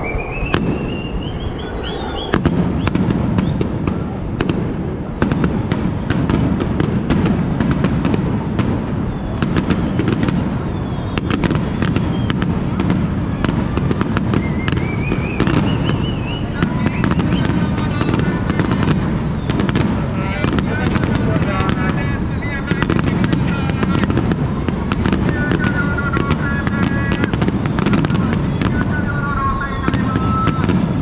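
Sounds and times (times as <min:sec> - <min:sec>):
fireworks crackling: 0:00.0 - 0:31.0
low rumble of firework bursts: 0:00.0 - 0:31.0
rising firework whistle: 0:00.0 - 0:31.0.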